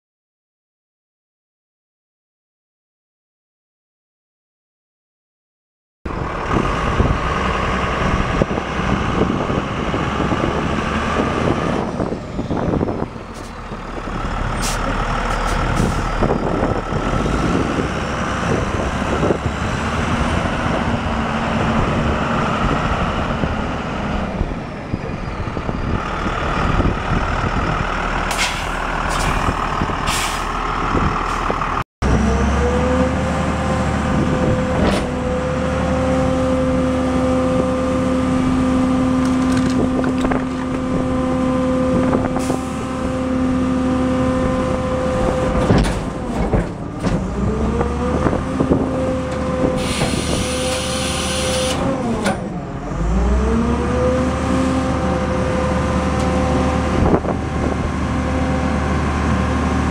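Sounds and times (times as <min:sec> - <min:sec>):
diesel truck engine running: 0:06.1 - 0:59.9.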